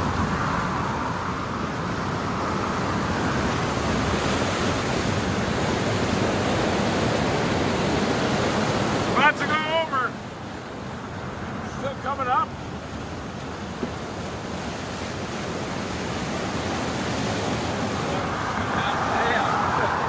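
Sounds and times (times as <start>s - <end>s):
flooded river rushing: 0.0s - 20.0s.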